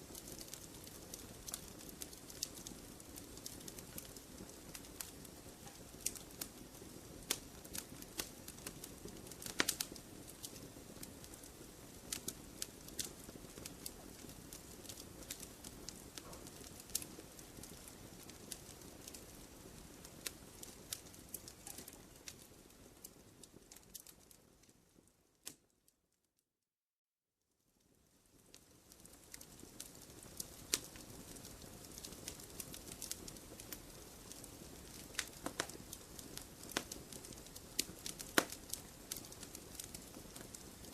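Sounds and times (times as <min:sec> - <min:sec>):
campfire crackling: 0:00.0 - 0:25.6, 0:27.8 - 0:40.9.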